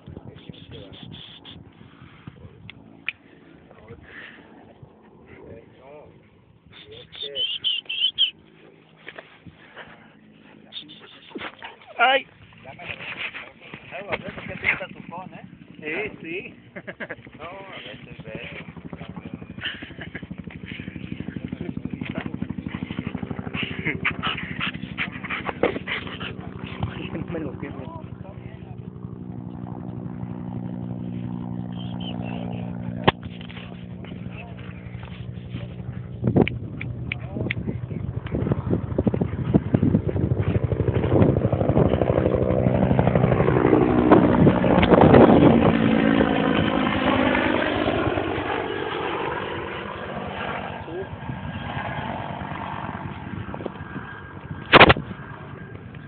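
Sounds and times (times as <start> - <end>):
helicopter rotor beating: 0.0 - 56.0.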